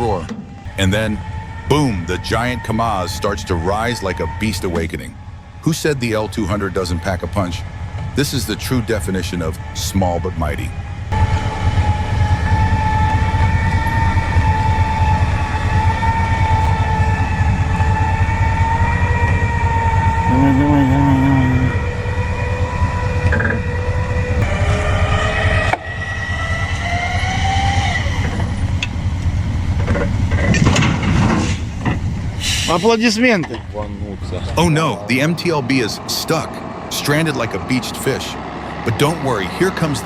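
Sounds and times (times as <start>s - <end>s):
heavy vehicle engine running hard: 0.0s - 40.0s.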